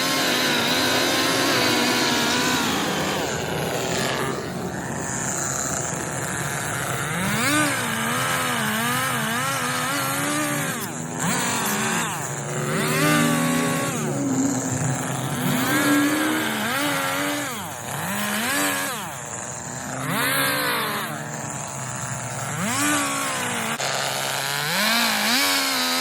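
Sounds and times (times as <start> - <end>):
chainsaw carving wood: 0.0 - 26.0.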